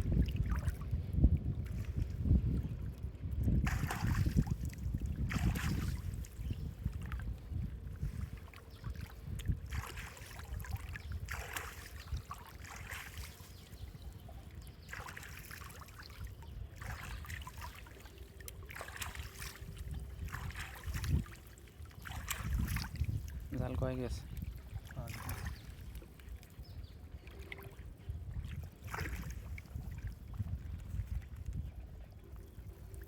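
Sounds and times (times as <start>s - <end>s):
water splashing and sloshing: 0.0s - 33.0s
wind rumble on microphone: 0.0s - 33.0s.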